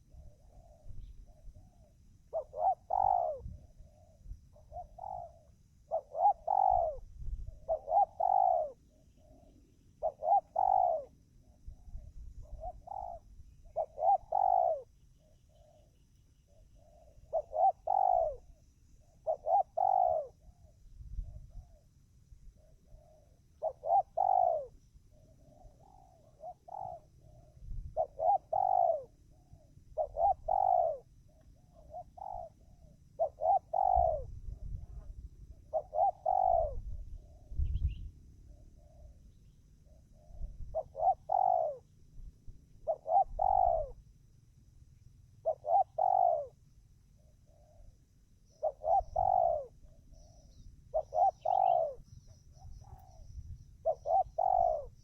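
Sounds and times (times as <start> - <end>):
dove cooing: 0.0 - 44.1, 45.4 - 55.0.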